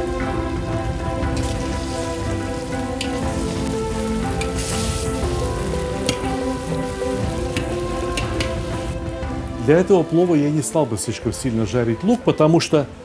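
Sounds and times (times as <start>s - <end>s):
meat and onions sizzling in oil: 0.0s - 11.4s
background music with held notes: 0.0s - 13.0s.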